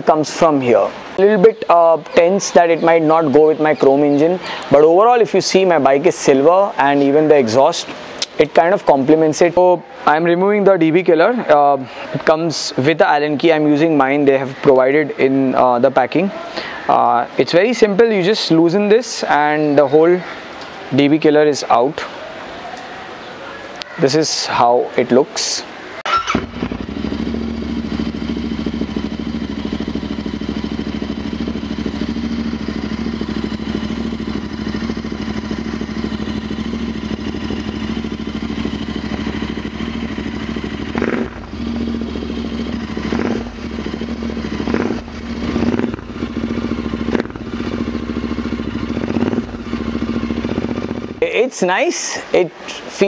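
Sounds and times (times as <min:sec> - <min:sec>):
motorcycle engine idling and revving: 0:00.0 - 0:24.0, 0:25.7 - 0:52.9.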